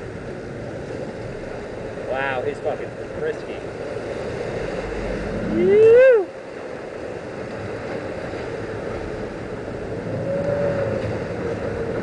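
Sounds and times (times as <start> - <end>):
boat engine hum: 0.0 - 12.0
rushing water: 0.0 - 12.0
wind: 0.0 - 12.0.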